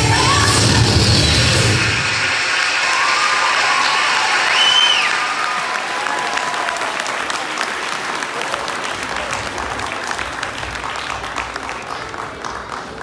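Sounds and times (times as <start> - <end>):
audience applauding: 0.9 - 13.0.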